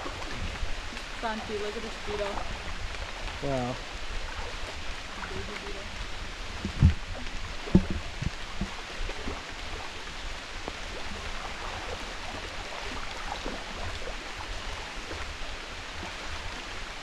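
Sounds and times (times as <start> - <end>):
steady hiss of rain: 0.0 - 17.0.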